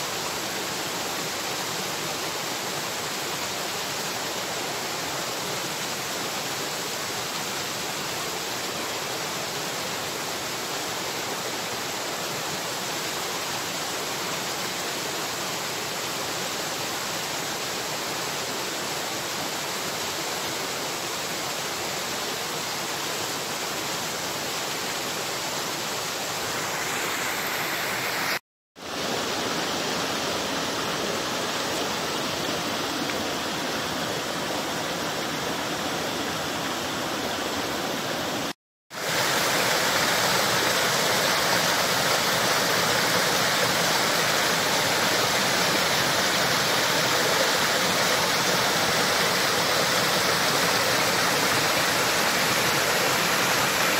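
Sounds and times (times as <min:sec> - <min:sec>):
flowing water rushing: 0:00.0 - 0:53.9.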